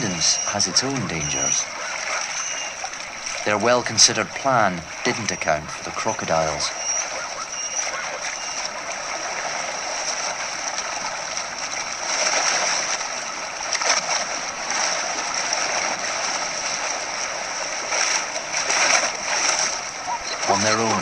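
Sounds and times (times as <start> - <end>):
water splashing and churning: 0.0 - 21.0.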